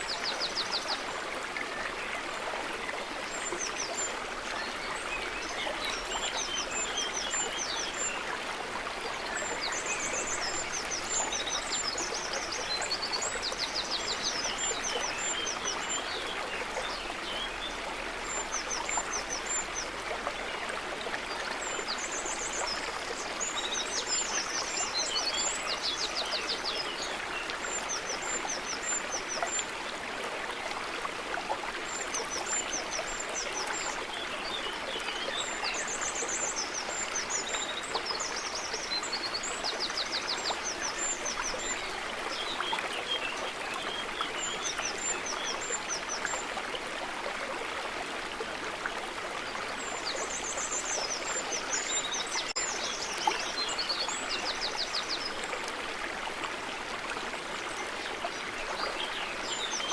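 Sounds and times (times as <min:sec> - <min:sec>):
stream of running water: 0:00.0 - 0:59.9.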